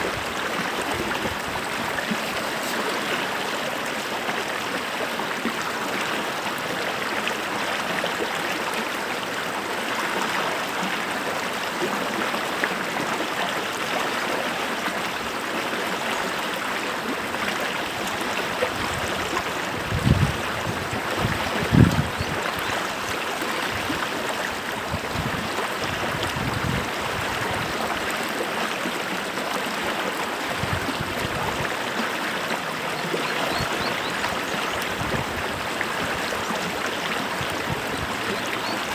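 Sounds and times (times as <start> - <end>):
stream of running water: 0.0 - 38.9.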